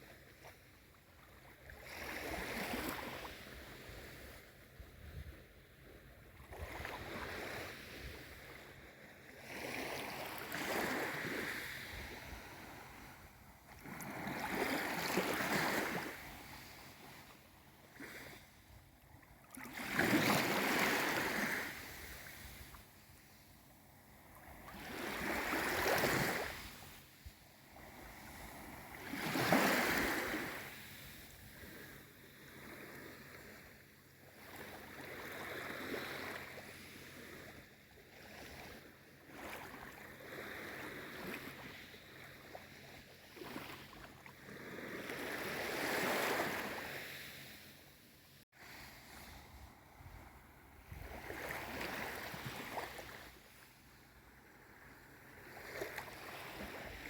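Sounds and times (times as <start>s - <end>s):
small waves washing in: 0.0s - 57.0s.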